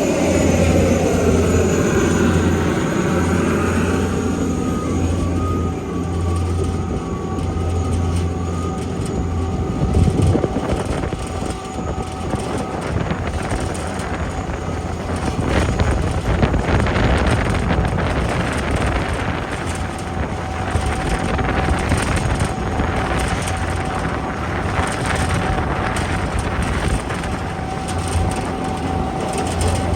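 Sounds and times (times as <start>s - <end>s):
broad rushing noise: 0.0s - 29.9s
high whine: 0.0s - 29.9s
tug engine humming: 0.0s - 29.9s.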